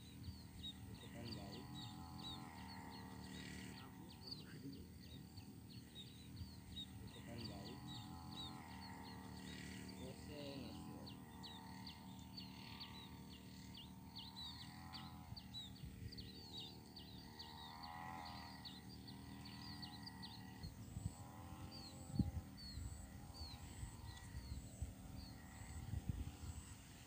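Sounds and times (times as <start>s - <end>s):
low steady hum: 0.0s - 27.0s
small birds chirping: 0.0s - 27.0s.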